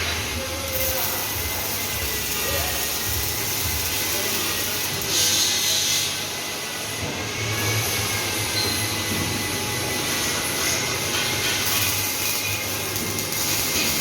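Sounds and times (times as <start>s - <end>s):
industrial machine hum and hiss: 0.0s - 14.0s.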